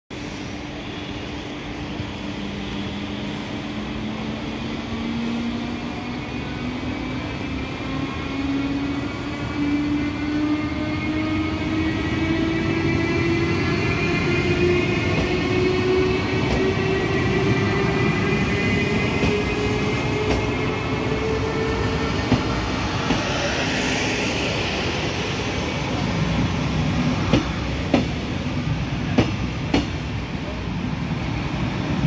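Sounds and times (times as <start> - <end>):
electric locomotive whining: 0.3 - 32.0.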